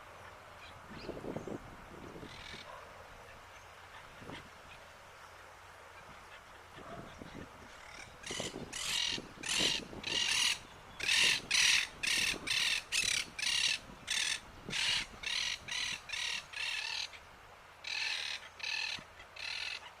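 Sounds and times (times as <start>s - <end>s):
harsh rasping bird calls: 2.2s - 4.9s, 6.0s - 20.0s.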